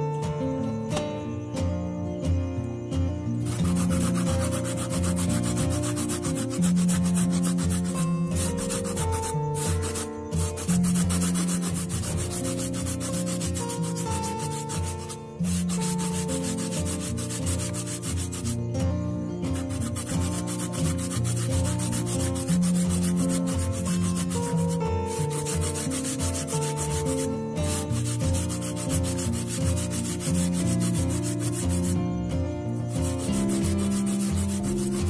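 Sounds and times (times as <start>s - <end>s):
background music: 0.0s - 35.0s
root scraping on grater: 3.4s - 18.7s, 19.5s - 32.0s, 32.9s - 35.0s.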